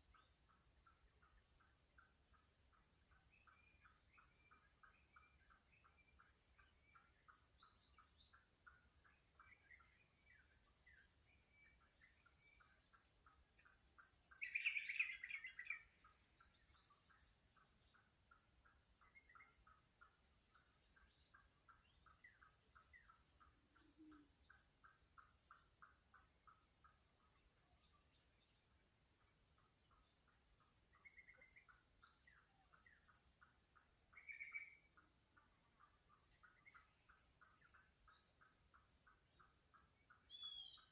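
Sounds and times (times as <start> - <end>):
high hum of insects: 0.0 - 40.9
insect chirping pulses: 0.0 - 40.9
loud insect call: 0.0 - 40.9.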